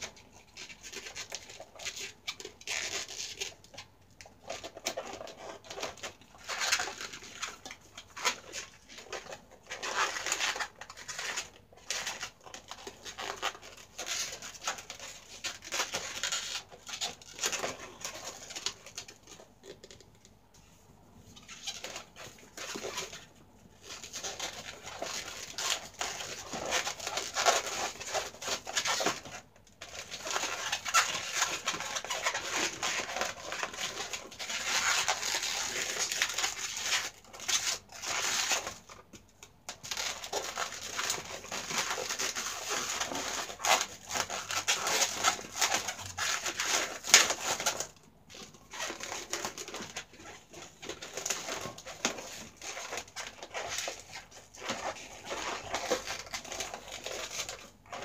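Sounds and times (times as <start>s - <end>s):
balloons squeaking and rubbing: 0.0s - 20.0s, 21.2s - 39.0s, 39.7s - 58.0s.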